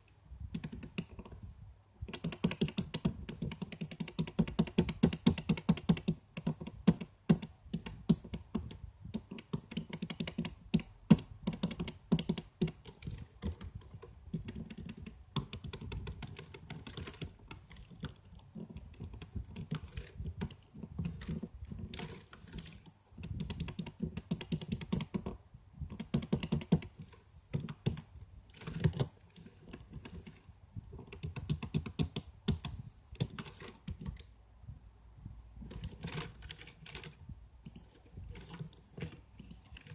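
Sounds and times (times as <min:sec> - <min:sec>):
typing on computer keyboard: 0:00.5 - 0:01.4, 0:02.1 - 0:30.4, 0:31.0 - 0:34.3, 0:35.6 - 0:39.9.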